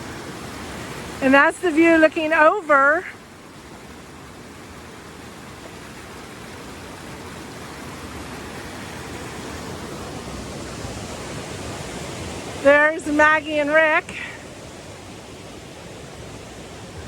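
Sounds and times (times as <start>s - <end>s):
creek water rushing over waterfalls: 0.0s - 17.0s.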